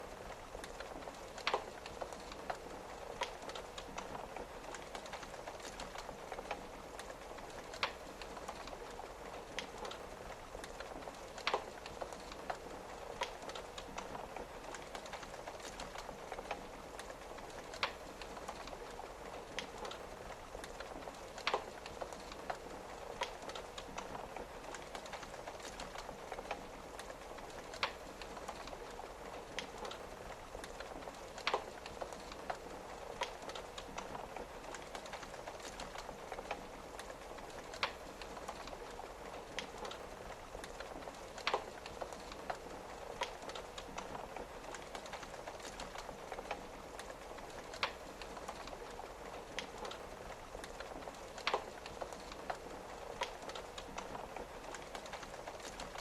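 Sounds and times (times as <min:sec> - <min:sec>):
rain pattering on window: 0:00.0 - 0:56.0
wood fire crackling: 0:00.0 - 0:56.0.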